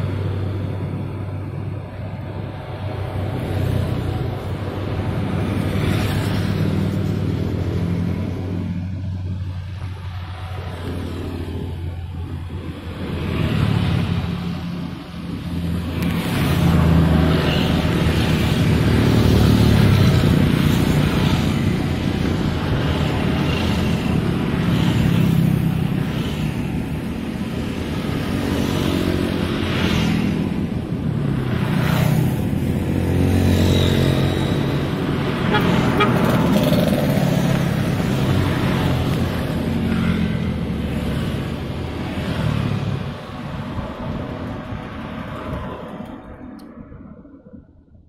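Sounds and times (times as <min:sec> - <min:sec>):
traffic passing: 0:00.0 - 0:48.0.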